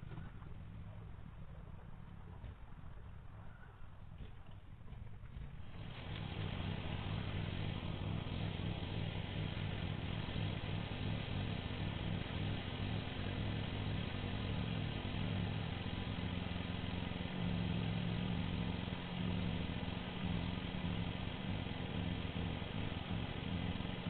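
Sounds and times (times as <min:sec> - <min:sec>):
walking tractor engine running: 0:00.0 - 0:24.0.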